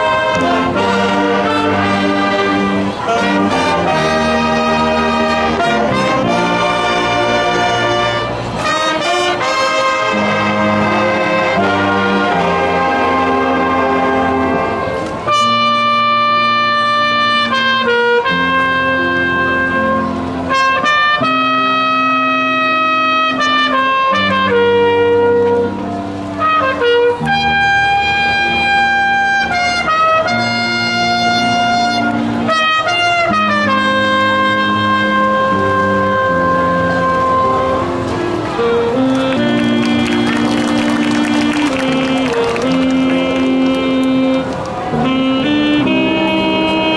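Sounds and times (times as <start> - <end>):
brass chords: 0.0 - 46.9.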